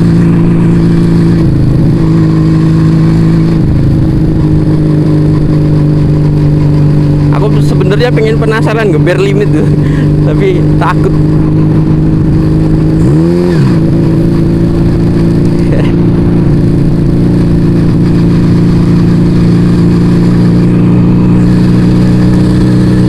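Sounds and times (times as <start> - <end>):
motorcycle engine revving: 0.0 - 23.0
motorcycle engine riding: 0.0 - 23.0.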